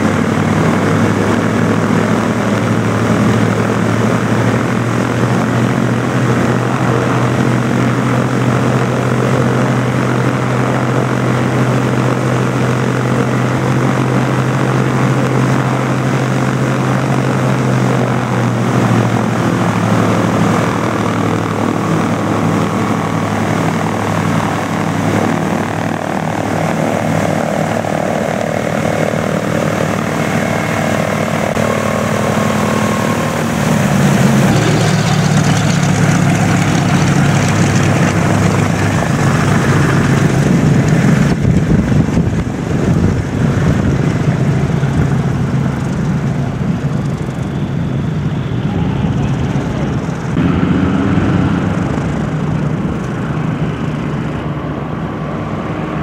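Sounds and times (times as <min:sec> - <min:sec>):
twin piston aircraft engines running: 0:00.0 - 0:56.0.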